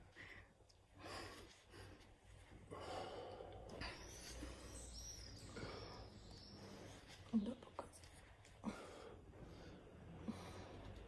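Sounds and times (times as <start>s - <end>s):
faint breathing: 0.0s - 7.3s, 8.4s - 11.0s.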